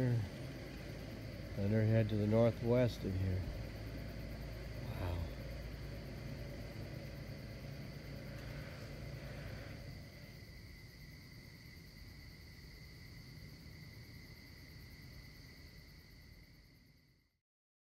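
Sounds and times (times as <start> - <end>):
night insects trilling: 0.0 - 17.4.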